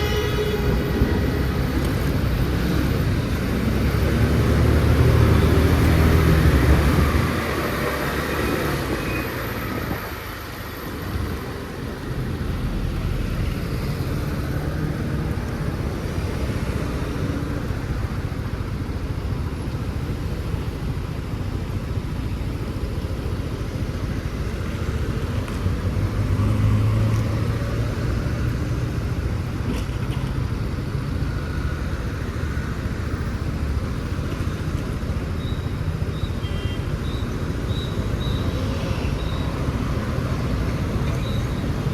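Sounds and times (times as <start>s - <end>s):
scooter engine and road noise: 0.0s - 41.9s.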